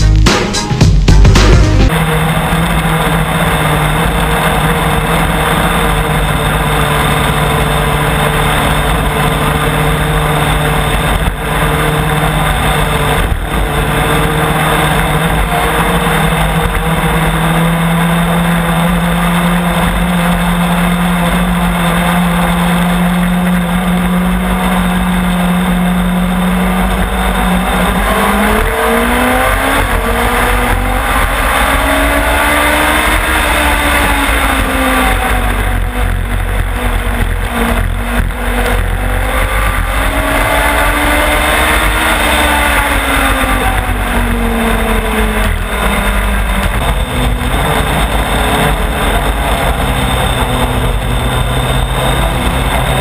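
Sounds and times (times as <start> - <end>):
wind and road noise: 0.0 - 53.0
race car engine at high revs: 1.1 - 53.0.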